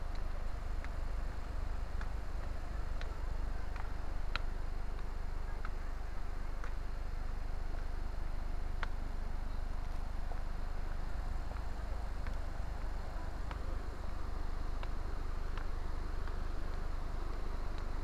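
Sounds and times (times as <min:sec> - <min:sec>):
faint sharp clicks: 0:00.1 - 0:05.8, 0:06.6 - 0:06.8, 0:08.8 - 0:14.2, 0:14.8 - 0:18.0.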